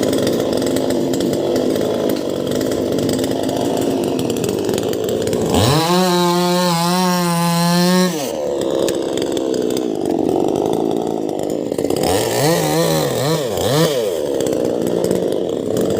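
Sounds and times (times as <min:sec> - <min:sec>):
chainsaw revving: 0:00.0 - 0:15.9.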